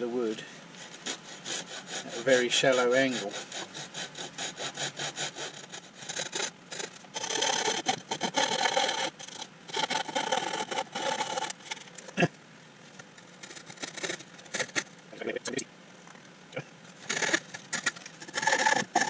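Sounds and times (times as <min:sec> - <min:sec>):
saw rasping through wood: 0:00.1 - 0:11.9, 0:13.4 - 0:14.9, 0:17.0 - 0:19.0.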